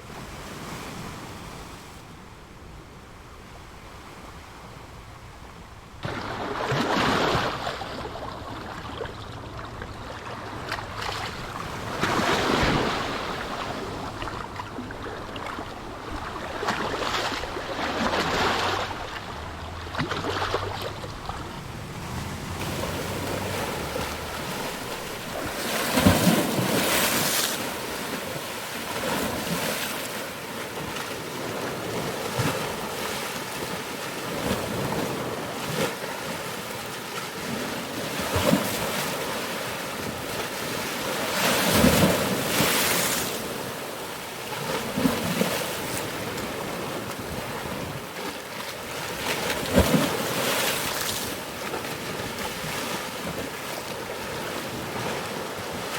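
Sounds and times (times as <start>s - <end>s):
ocean waves breaking: 3.6s - 55.9s.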